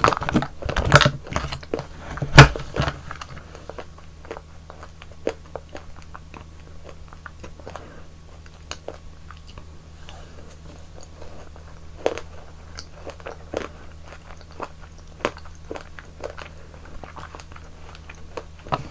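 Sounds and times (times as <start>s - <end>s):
biting and crunchy mouth sounds: 0.0s - 18.9s
quiet chewing: 3.1s - 18.9s.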